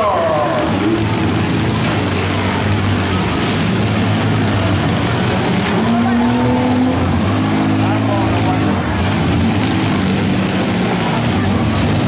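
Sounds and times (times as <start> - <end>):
minivan engines droning and revving: 0.0 - 12.0.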